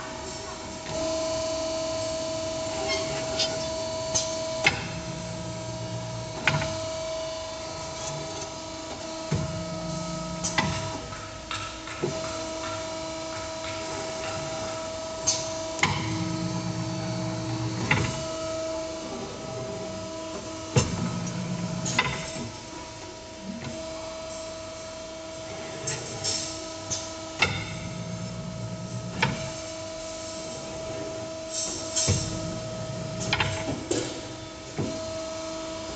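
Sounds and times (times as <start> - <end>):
bending machine humming: 0.2 - 35.9.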